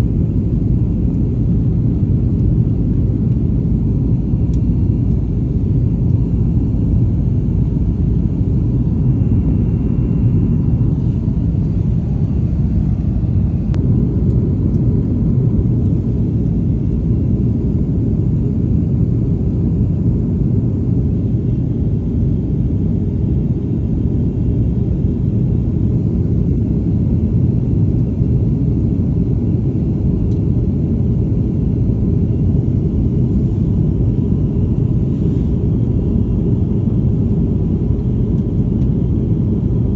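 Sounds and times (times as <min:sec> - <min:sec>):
airliner engine roar: 0:00.0 - 0:39.9.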